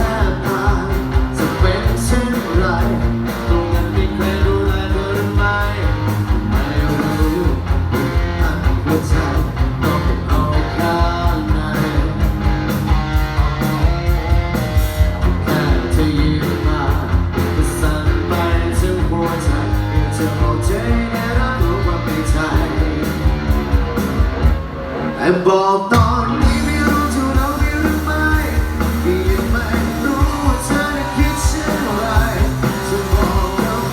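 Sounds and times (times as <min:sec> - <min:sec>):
person singing: 0:00.0 - 0:12.5, 0:15.2 - 0:23.2, 0:25.0 - 0:33.9
bass guitar: 0:00.0 - 0:33.9
drums: 0:00.0 - 0:33.9
guitar: 0:00.0 - 0:33.9.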